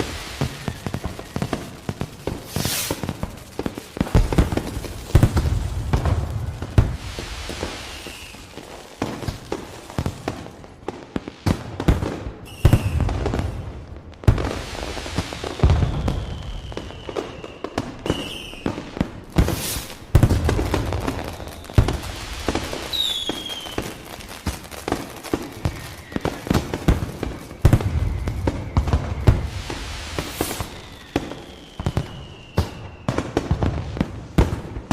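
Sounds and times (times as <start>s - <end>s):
fireworks banging and crackling: 0.0s - 34.9s
whistling rockets: 0.0s - 34.9s.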